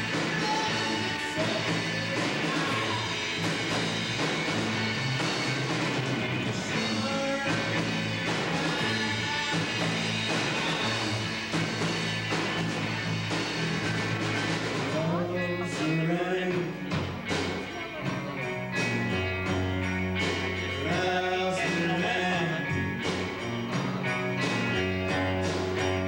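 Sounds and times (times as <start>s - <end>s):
bass notes: 0.0s - 26.0s
drum kit: 0.0s - 26.0s
electric guitars: 0.0s - 26.0s.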